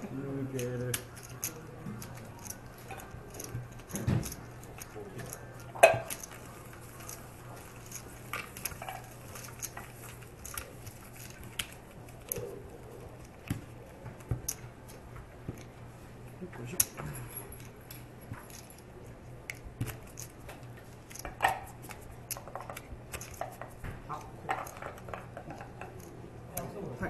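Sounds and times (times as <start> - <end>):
poker chips clicking: 0.4 - 13.5, 16.8 - 26.7.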